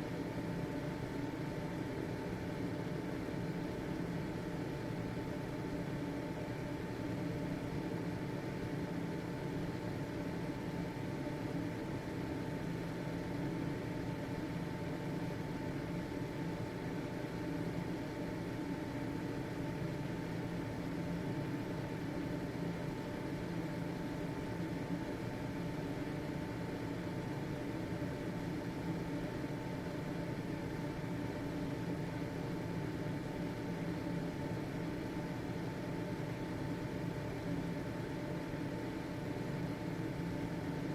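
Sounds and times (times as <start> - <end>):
ventilation fan humming: 0.0 - 40.9.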